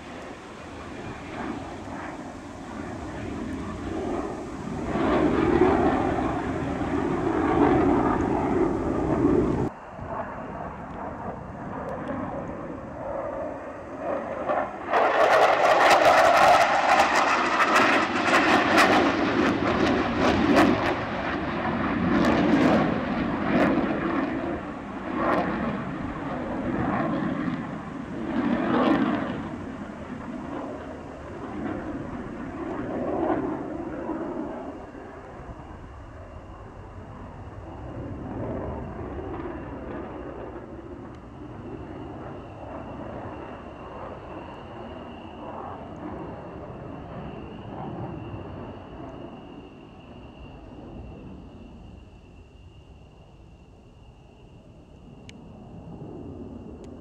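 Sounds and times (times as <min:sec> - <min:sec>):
jet engine passing overhead: 0:00.0 - 0:57.0.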